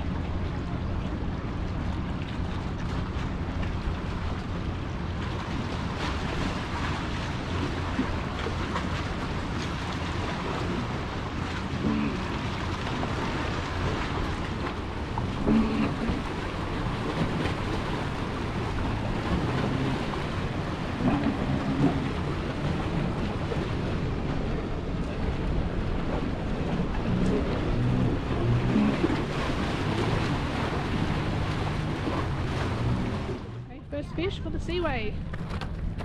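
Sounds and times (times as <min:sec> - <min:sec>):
boat motor humming: 0:00.0 - 0:36.0
water at the edge: 0:00.0 - 0:36.0
wind: 0:00.0 - 0:36.0.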